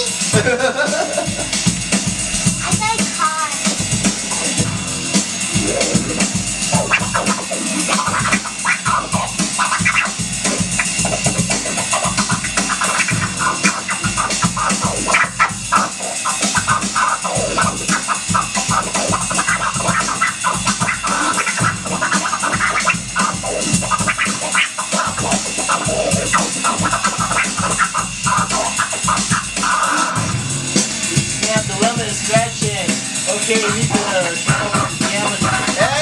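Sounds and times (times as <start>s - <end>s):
hip-hop beat: 0.0s - 36.0s
turntable scratching: 0.0s - 36.0s.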